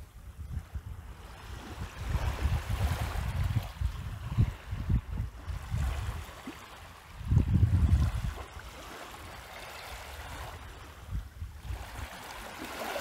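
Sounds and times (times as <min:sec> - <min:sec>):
waves lapping on rocky shore: 0:00.0 - 0:13.0
wind buffeting microphone: 0:00.0 - 0:13.0.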